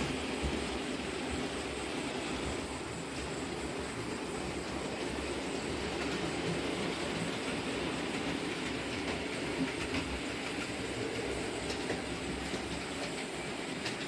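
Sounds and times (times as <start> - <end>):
model train rumble: 0.0 - 14.0
wheels clicking over rail joints: 0.0 - 14.0.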